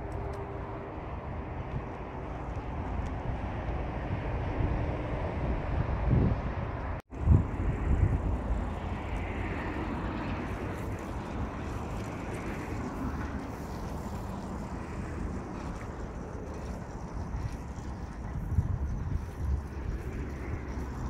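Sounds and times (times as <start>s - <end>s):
distant road traffic hum: 0.0s - 21.0s.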